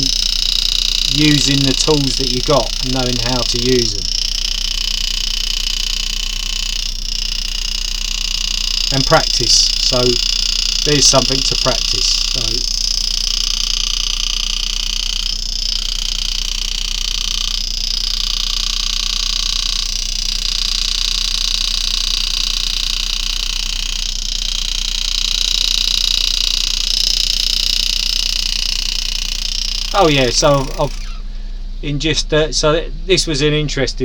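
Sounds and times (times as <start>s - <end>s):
engraving handpiece buzzing: 0.0s - 32.6s
low electrical hum: 0.0s - 34.0s.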